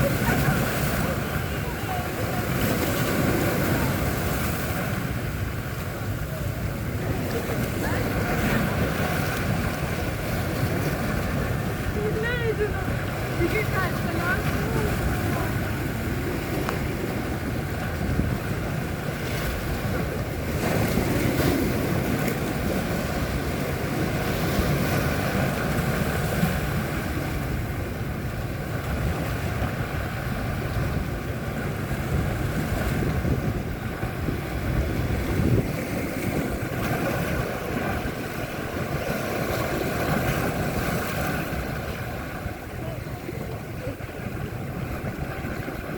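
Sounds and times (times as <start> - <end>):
sea waves washing: 0.0 - 45.9
wind buffeting microphone: 0.0 - 45.9.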